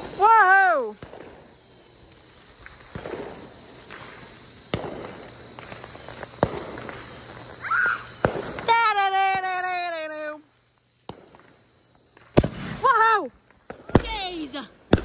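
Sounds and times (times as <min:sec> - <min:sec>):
sparklers crackling: 0:00.0 - 0:15.0.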